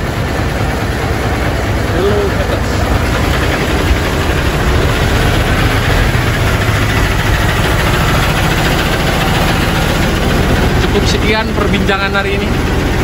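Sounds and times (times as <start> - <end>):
large diesel engine idling: 0.0 - 13.0.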